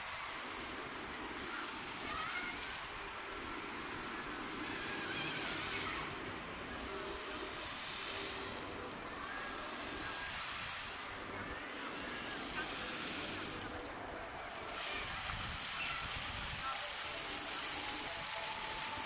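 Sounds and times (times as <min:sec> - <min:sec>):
faint distant voices: 0:00.0 - 0:19.0
steady street noise: 0:00.0 - 0:19.0.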